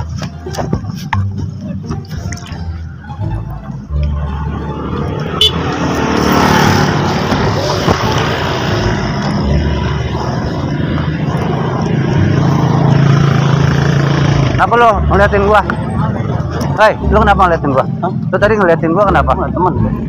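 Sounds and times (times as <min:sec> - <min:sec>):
motorcycle engines passing: 0:00.0 - 0:20.0
traffic noise: 0:00.0 - 0:20.0.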